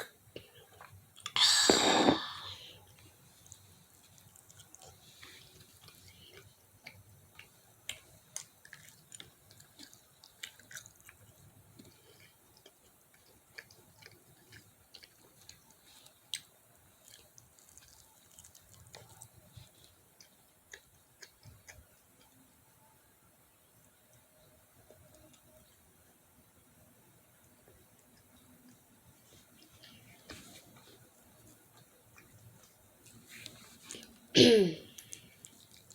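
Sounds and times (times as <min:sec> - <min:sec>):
chewing fried chicken: 0:00.0 - 0:01.4, 0:02.7 - 0:22.7, 0:23.8 - 0:34.3, 0:34.9 - 0:35.9.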